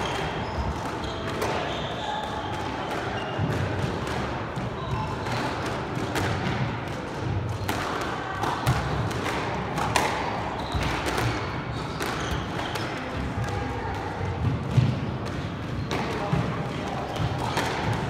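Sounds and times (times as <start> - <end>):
squash ball hitting rackets and walls: 0.0 - 18.0.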